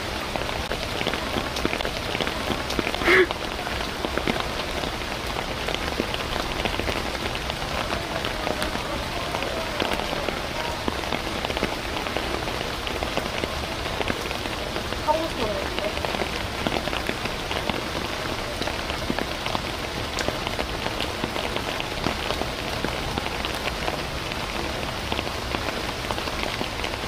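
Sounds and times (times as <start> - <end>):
rain pattering: 0.0 - 27.0.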